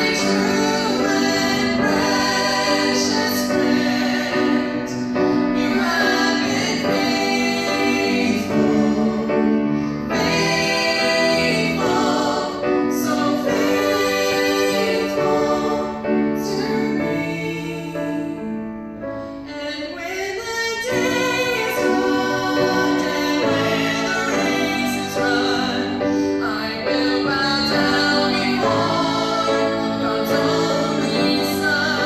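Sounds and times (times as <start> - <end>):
women singing gospel song: 0.0 - 18.4, 19.5 - 32.0
musical accompaniment: 0.0 - 32.0.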